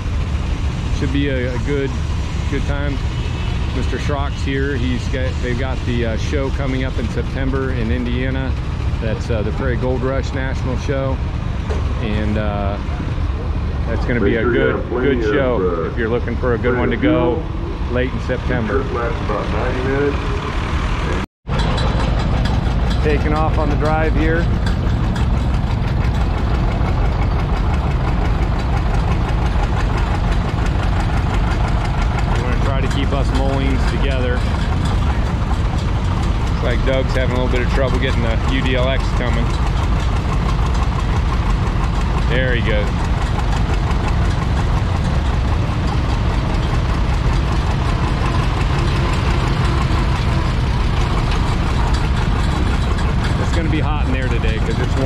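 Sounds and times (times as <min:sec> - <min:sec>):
tractor engines idling: 0:00.0 - 0:55.0.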